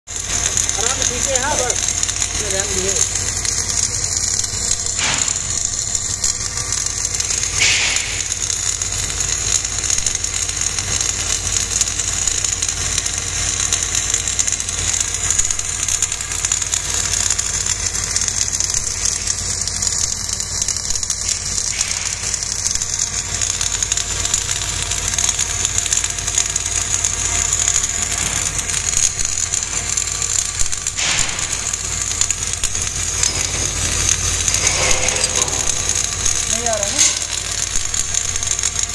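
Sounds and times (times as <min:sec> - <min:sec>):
welding arc crackle and hiss: 0:00.1 - 0:38.9.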